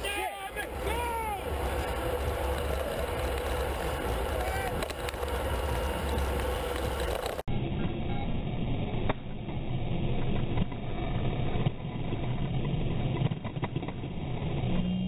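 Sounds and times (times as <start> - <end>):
low rumble of wind and tyres: 0.0 - 15.0.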